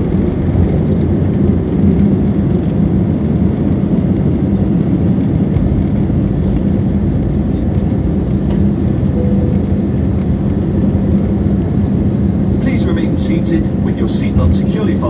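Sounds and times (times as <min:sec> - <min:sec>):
jet engines roaring in cabin: 0:00.0 - 0:15.0
steady low hum: 0:00.0 - 0:15.0.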